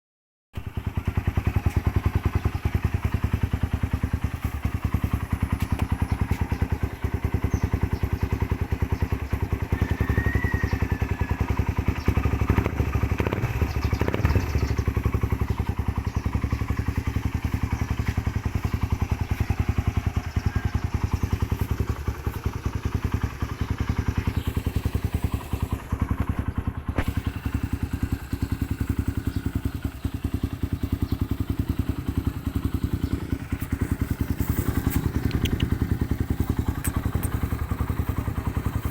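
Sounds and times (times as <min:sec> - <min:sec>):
motorcycle engine idling: 0:00.6 - 0:38.9.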